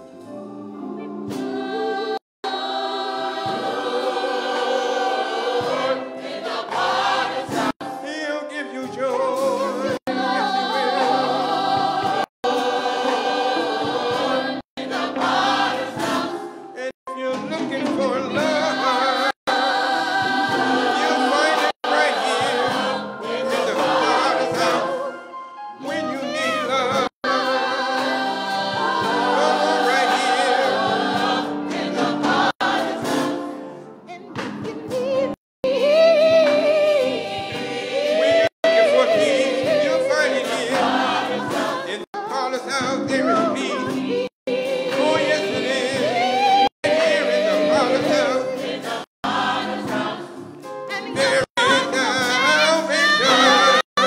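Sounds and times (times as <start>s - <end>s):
church choir singing gospel: 0.0s - 54.0s.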